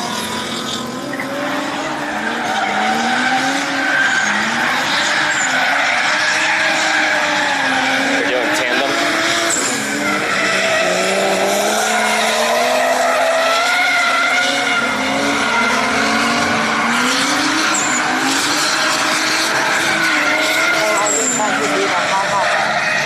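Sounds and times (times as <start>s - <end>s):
car engines revving: 0.0s - 23.0s
tyres skidding and squealing: 0.0s - 23.0s.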